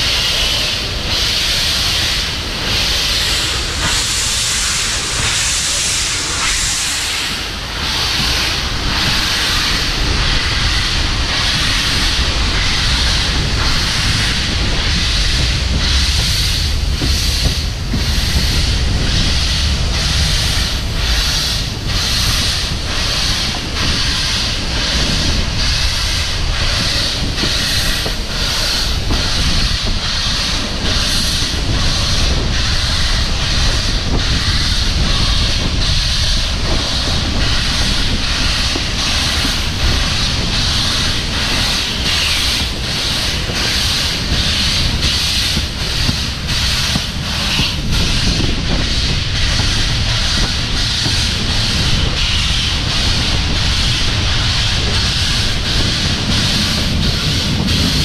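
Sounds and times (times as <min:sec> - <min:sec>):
steam hissing: 0:00.0 - 0:58.0
steam locomotive exhaust beats: 0:00.0 - 0:58.0.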